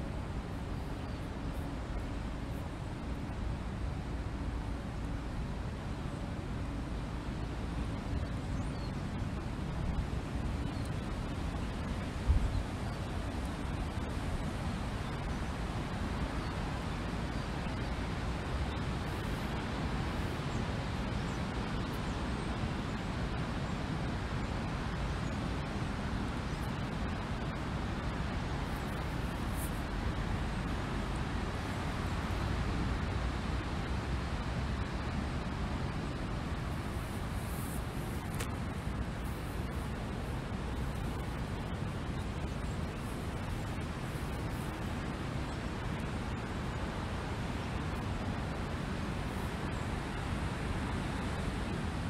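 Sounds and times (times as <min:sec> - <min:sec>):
wind blowing over microphone: 0:07.8 - 0:52.0.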